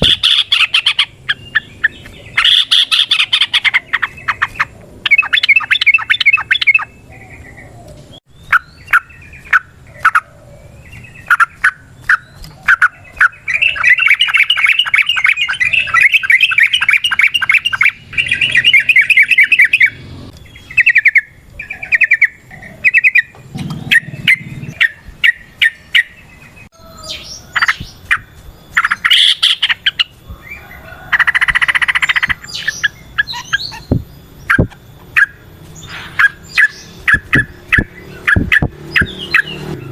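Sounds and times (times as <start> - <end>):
bird rapid rolling trill: 0.0 - 39.9
bird sharp chirping: 0.0 - 39.9.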